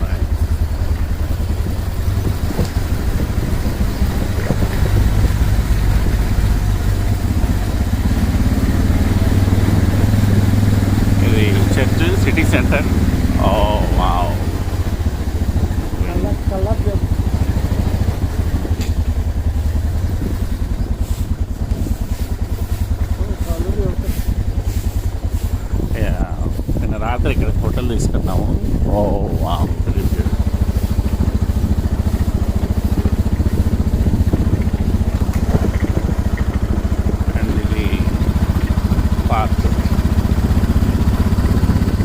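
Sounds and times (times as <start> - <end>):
motorcycle riding at low speed: 0.0 - 42.0
wind rumbling on microphone: 0.0 - 42.0.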